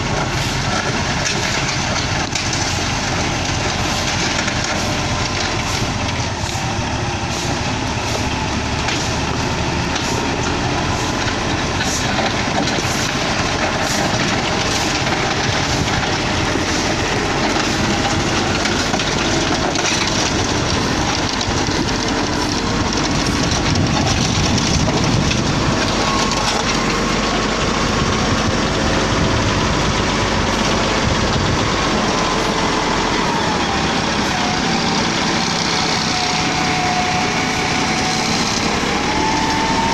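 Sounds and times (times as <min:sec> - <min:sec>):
grader diesel engine rumbling: 0:00.0 - 0:39.9.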